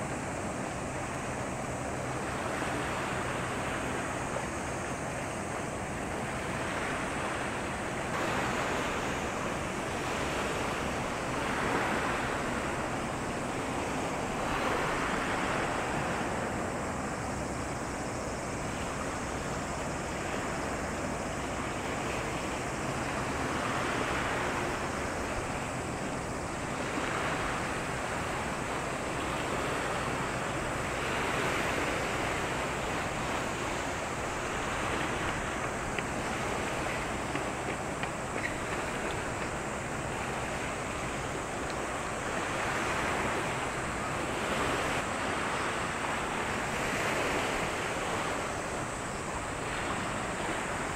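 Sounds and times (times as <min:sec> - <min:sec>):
sea waves washing in: 0:00.0 - 0:50.9.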